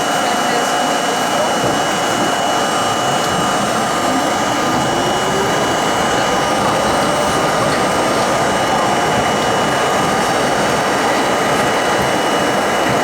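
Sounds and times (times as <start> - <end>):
wheel and rail rush: 0.1 - 13.0
faint motor whine: 1.3 - 13.0.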